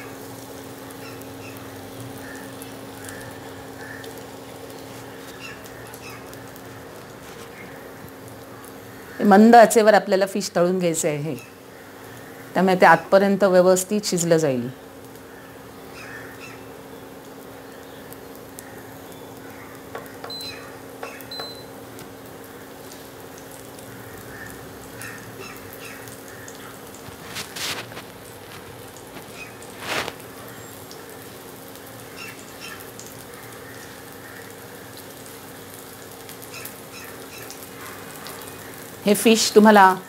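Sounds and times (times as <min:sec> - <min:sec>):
fish sizzling in a pan: 0:00.0 - 0:09.5, 0:14.8 - 0:39.6
cooktop hum: 0:00.0 - 0:40.0.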